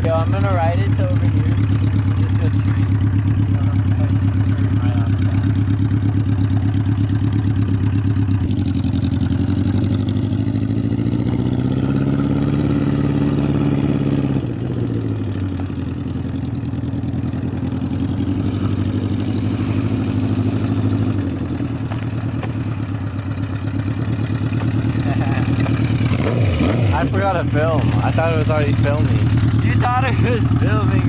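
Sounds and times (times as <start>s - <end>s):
motorcycle engine revving and idling: 0.0s - 31.0s.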